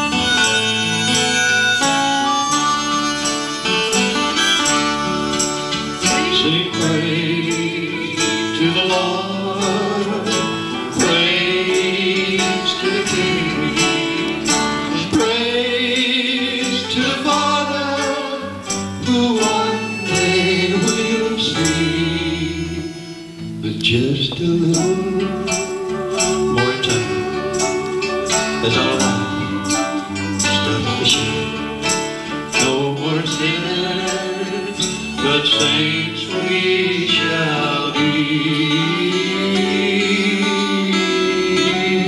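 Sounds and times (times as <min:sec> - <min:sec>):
acoustic guitar strumming: 0:00.0 - 0:42.0
harmonica melody: 0:00.0 - 0:42.0
voices singing: 0:00.0 - 0:42.0.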